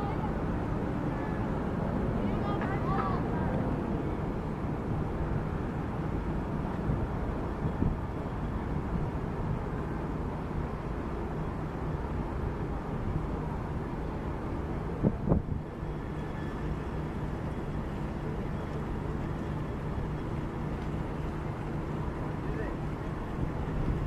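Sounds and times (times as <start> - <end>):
outdoor harbour noise: 0.0 - 24.0
ship engine low hum: 0.0 - 24.0.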